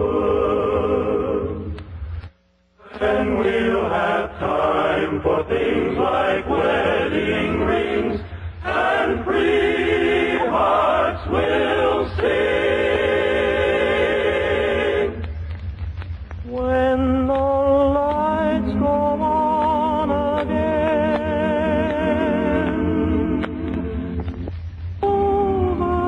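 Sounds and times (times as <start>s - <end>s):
choir singing: 0.0s - 1.8s, 2.8s - 15.3s, 17.0s - 24.4s, 25.0s - 26.0s
steady low hum: 0.0s - 26.0s.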